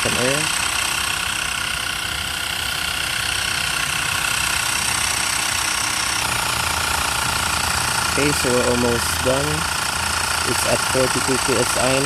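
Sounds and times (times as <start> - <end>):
air compressor pump buzzing: 0.0 - 12.0.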